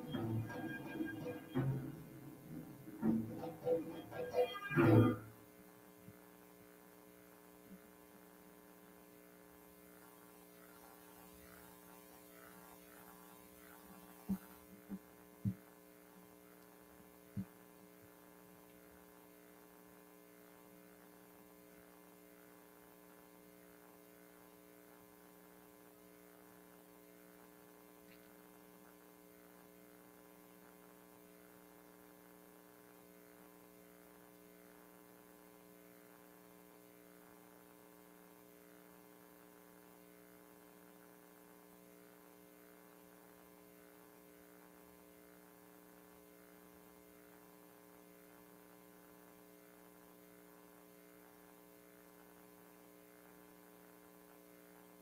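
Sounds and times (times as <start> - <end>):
faint mains hum: 0.0 - 55.0.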